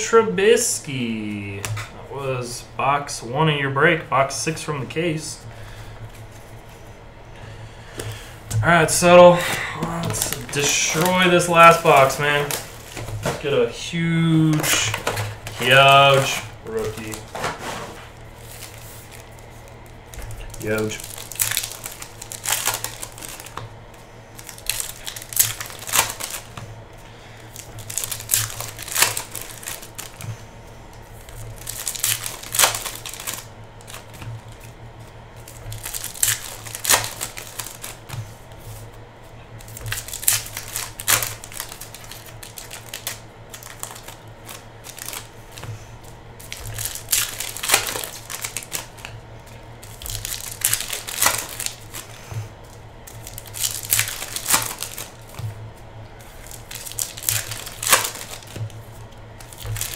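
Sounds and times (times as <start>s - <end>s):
steady low hum: 0.0s - 59.9s
foil wrappers crinkling and tearing: 8.0s - 59.9s.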